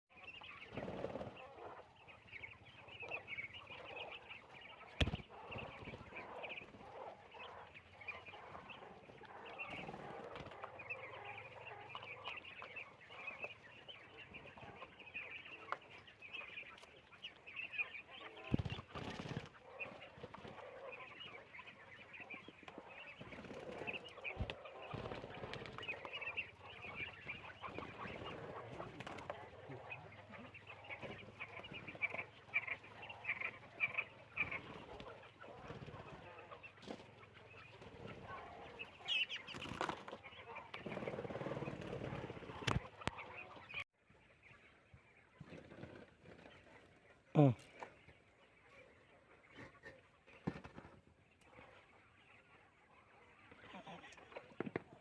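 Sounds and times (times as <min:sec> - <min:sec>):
poultry flock calling: 0:00.1 - 0:55.0.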